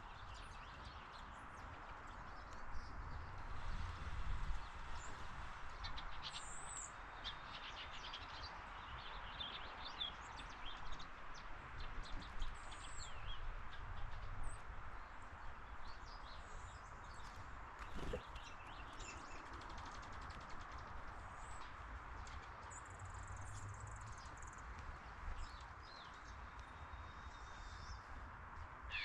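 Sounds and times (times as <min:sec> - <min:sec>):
small birds chirping: 0:04.5 - 0:28.2.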